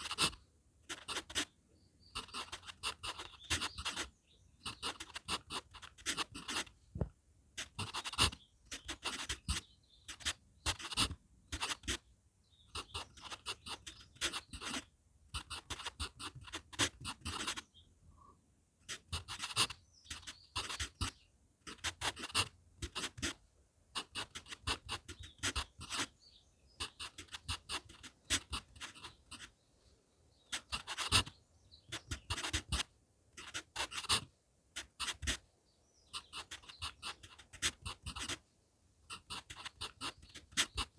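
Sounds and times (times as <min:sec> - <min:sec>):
pencil scratching on paper: 0:00.0 - 0:01.5, 0:02.1 - 0:06.8, 0:07.6 - 0:12.0, 0:12.7 - 0:17.7, 0:18.8 - 0:23.4, 0:24.0 - 0:26.1, 0:26.8 - 0:29.5, 0:30.5 - 0:35.4, 0:36.1 - 0:38.4, 0:39.1 - 0:40.9.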